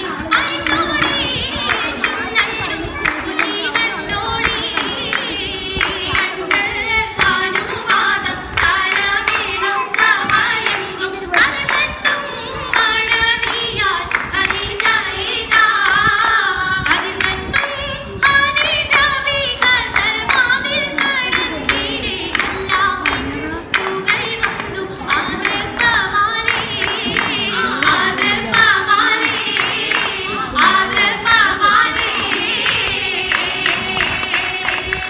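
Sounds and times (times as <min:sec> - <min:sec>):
people singing a song: 0:00.0 - 0:35.0
rhythmic hand clapping: 0:00.0 - 0:35.0.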